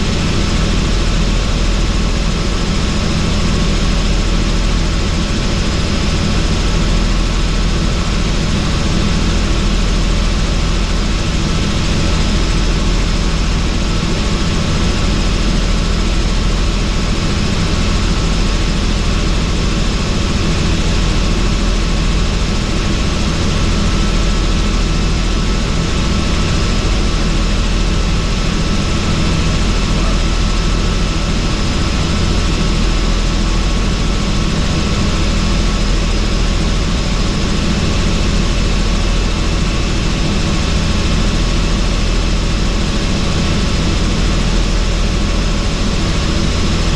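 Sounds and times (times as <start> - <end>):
helicopter rotor and engine drone: 0.0 - 46.9.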